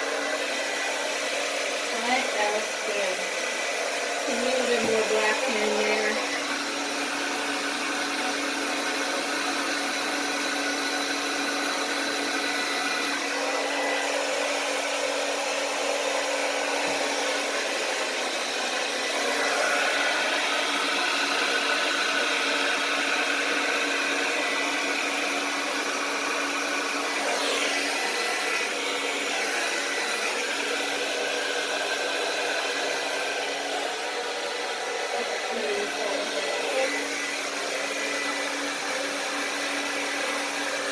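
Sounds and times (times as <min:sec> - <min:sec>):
blow dryer running: 0:00.0 - 0:40.9.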